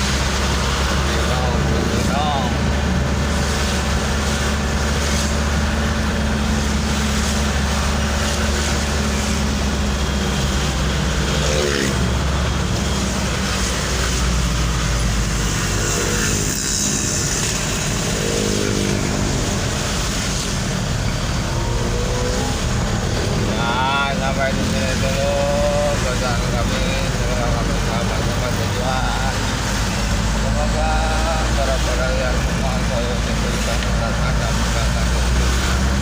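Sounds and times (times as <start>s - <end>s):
road noise: 0.0s - 36.0s
vehicle engine hum: 0.0s - 36.0s.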